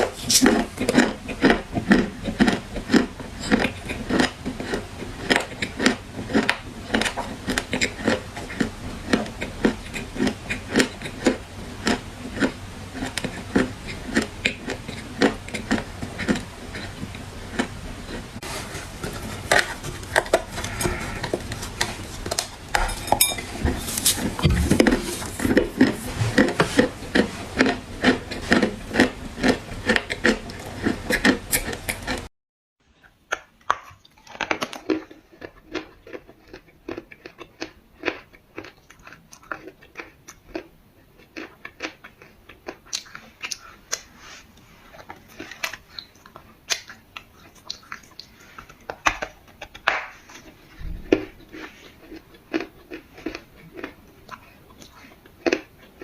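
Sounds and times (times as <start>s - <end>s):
crunchy clay being chewed: 0.0s - 32.3s, 33.0s - 56.0s.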